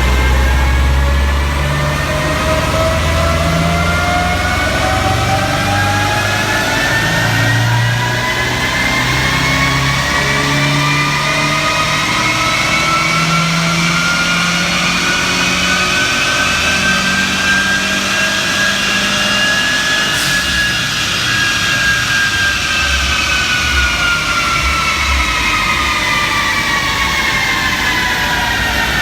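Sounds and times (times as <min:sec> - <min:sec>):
car engine at high revs whining: 0:00.0 - 0:29.0.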